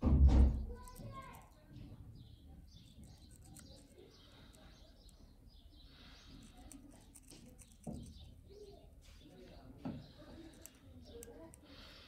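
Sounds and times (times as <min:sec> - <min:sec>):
distant bird chirps: 0:00.7 - 0:12.0.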